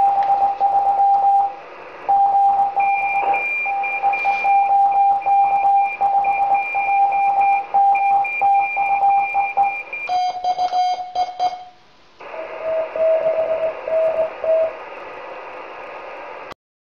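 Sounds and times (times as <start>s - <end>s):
morse code tones: 0.0s - 14.8s
receiver hiss: 0.0s - 16.6s.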